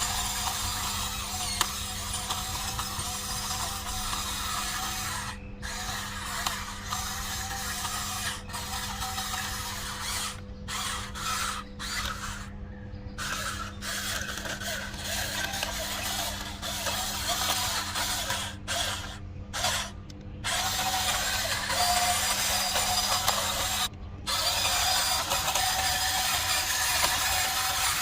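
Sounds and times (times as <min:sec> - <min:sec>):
steady low hum: 0:00.0 - 0:28.0
toy electric motors whirring: 0:00.0 - 0:28.0.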